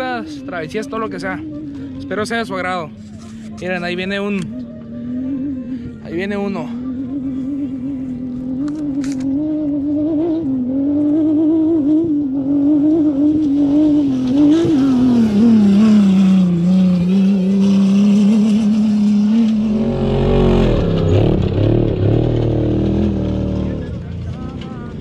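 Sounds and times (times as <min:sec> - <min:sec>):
deep rumble with swooping pitch: 0:00.0 - 0:24.1
buggy engine passing at speed: 0:00.0 - 0:25.0.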